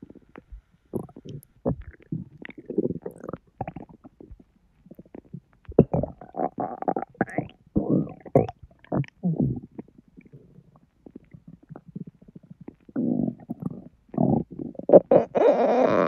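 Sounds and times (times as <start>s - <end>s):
stomach gurgling and rumbling: 0.0s - 16.0s.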